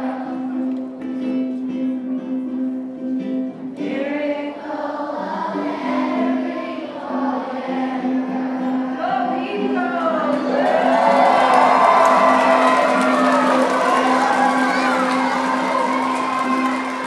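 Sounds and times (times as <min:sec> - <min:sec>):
children singing together: 0:00.0 - 0:01.2, 0:03.8 - 0:17.0.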